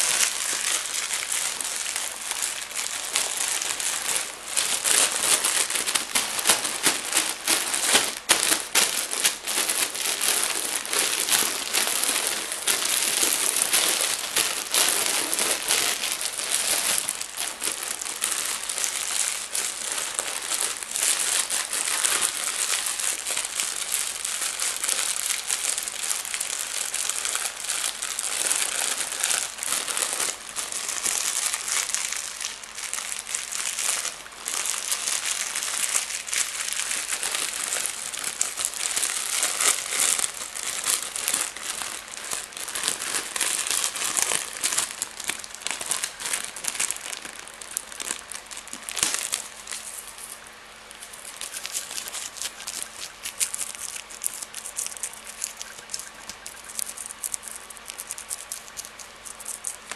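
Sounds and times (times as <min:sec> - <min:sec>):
plastic crinkling: 0:00.0 - 0:59.9.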